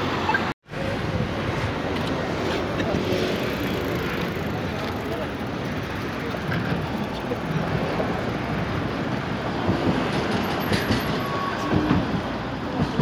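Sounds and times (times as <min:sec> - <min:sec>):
city traffic noise: 0:00.0 - 0:13.0.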